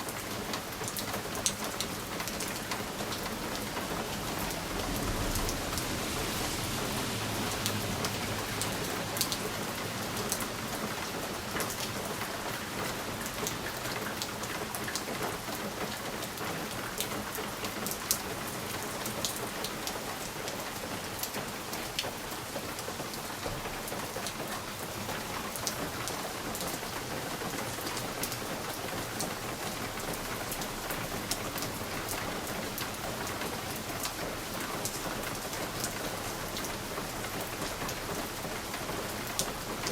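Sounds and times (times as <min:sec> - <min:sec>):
rain against a window pane: 0:00.0 - 0:39.9.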